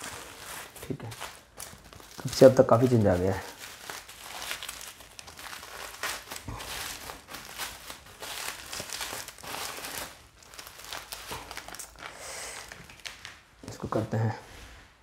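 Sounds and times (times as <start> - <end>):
plastic and bubble wrap crinkling: 0.0 - 15.0.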